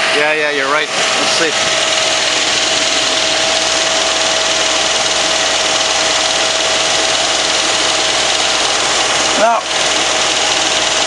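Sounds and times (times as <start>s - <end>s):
car engine idling: 0.0s - 11.0s
steady engine whine: 0.0s - 11.0s.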